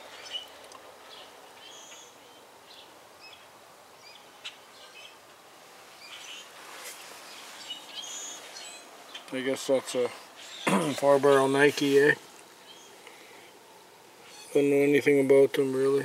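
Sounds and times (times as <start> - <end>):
small birds chirping: 0.0 - 5.3, 5.9 - 16.0.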